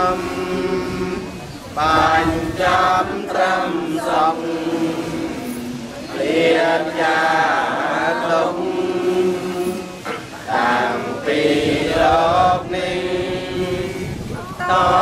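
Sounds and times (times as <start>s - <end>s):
group of voices chanting prayers: 0.0s - 15.0s.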